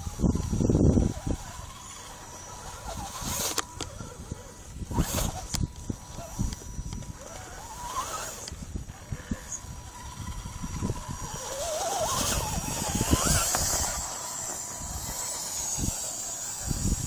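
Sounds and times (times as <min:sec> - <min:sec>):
rc car motor and gears whining: 0:00.0 - 0:17.0.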